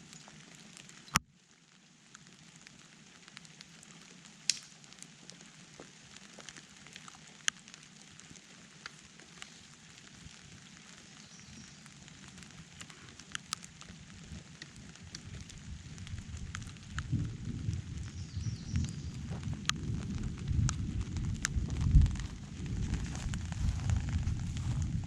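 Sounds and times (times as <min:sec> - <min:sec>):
rain falling: 0:00.0 - 0:25.0
raindrops ticking and crackling: 0:00.0 - 0:25.0.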